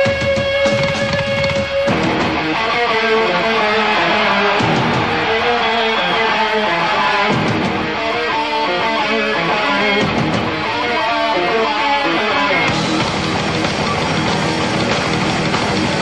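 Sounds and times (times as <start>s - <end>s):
guitar background music: 0.0s - 16.0s.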